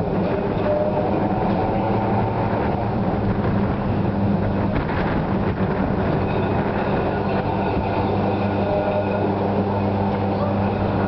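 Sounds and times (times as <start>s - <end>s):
electric tram moving off: 0.0s - 11.0s
electrical substation hum: 0.0s - 11.0s.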